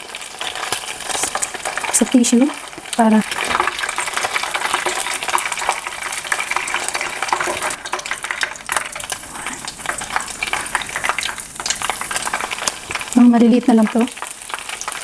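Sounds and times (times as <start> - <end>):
oysters sizzling in hot oil: 0.0 - 15.0.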